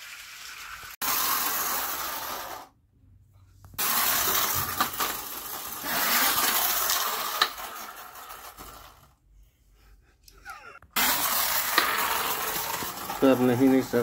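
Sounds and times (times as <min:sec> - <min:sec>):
toy wheels rolling on concrete: 0:00.0 - 0:02.8, 0:03.8 - 0:09.2, 0:10.9 - 0:14.0.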